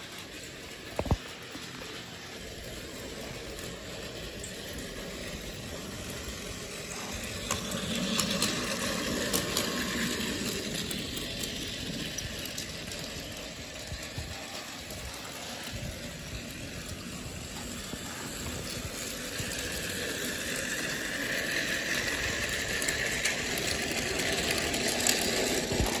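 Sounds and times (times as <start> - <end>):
toy train motor whirring: 0.0 - 26.0
wheels rattling on track: 0.0 - 26.0.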